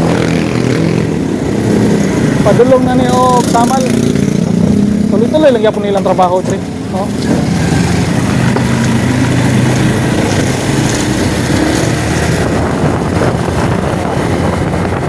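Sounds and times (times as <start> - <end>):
road and wind noise: 0.0 - 15.0
vehicle engine running: 0.0 - 15.0.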